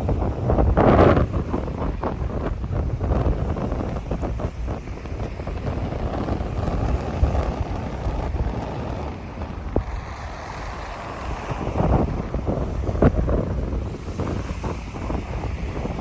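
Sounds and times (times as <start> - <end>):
waves washing onto beach: 0.0 - 16.0
wind buffeting microphone: 0.0 - 16.0.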